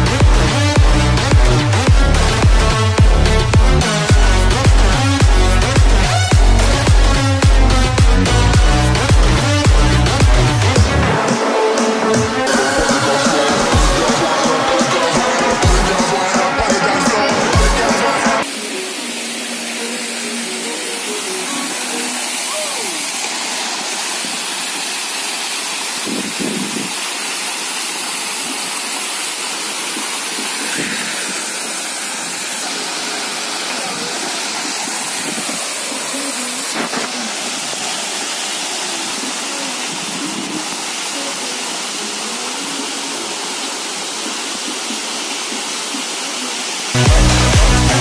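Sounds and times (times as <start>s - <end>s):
small waterfall splashing: 0.2s - 48.0s.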